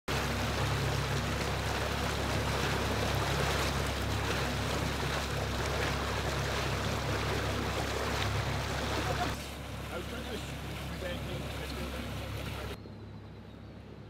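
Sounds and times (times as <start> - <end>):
rushing water: 0.0 - 12.8
boat engine humming: 0.0 - 14.0.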